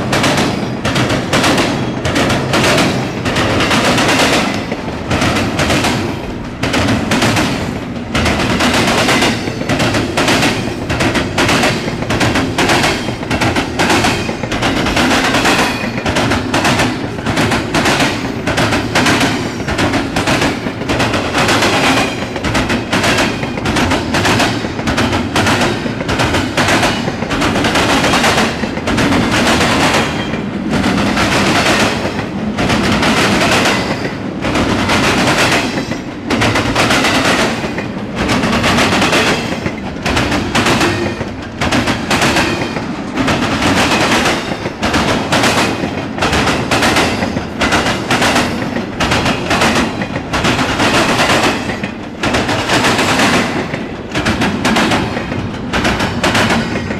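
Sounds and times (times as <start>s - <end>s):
freight train wheels clattering: 0.0s - 56.9s
train rumble: 0.0s - 56.9s.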